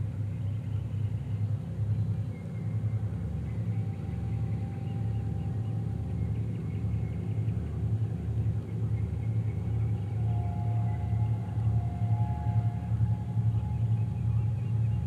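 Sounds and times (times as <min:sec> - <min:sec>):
diesel engine pulsing rumble: 0:00.0 - 0:15.0
faint high whine: 0:00.0 - 0:15.0.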